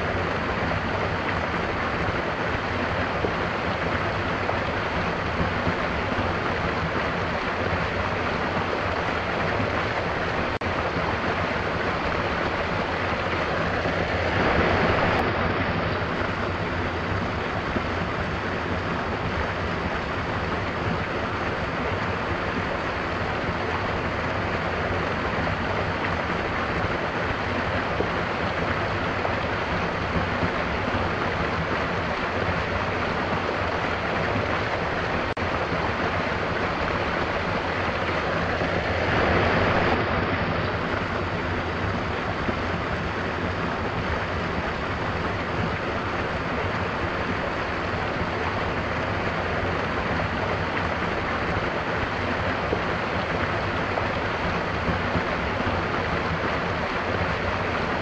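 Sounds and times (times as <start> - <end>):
stream splashing over rocks: 0.0 - 58.0.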